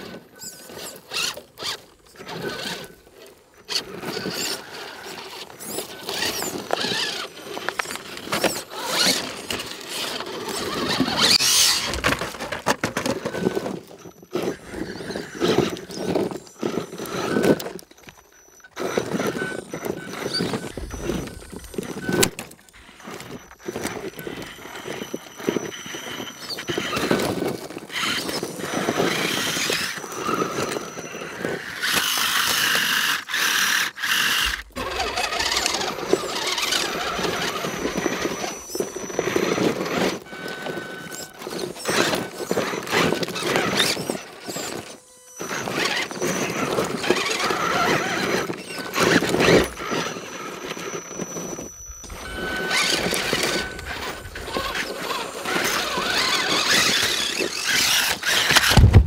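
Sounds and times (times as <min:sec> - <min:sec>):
electric motors whining: 0:00.0 - 0:59.0
stones scraping: 0:00.0 - 0:59.0
tyres scrabbling on rock: 0:00.0 - 0:59.0.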